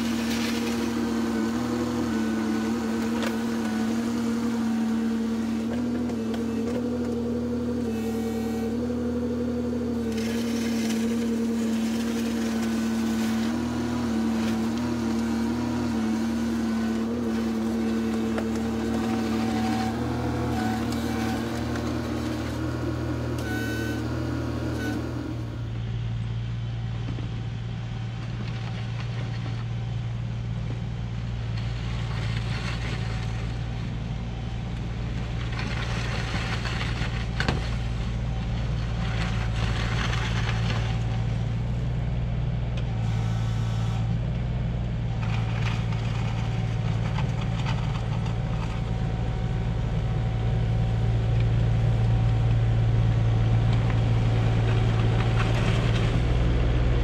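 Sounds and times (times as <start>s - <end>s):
diesel engine running: 0.0s - 57.0s
plow blade scraping snow: 0.0s - 57.0s.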